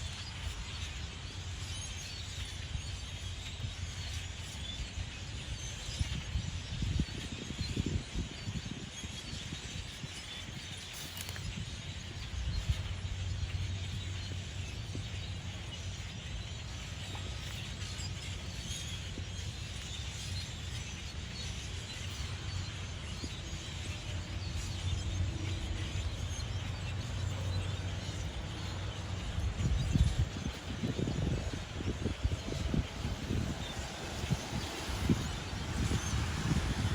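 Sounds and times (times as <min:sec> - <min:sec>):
flock of birds chirping: 0:00.0 - 0:36.9.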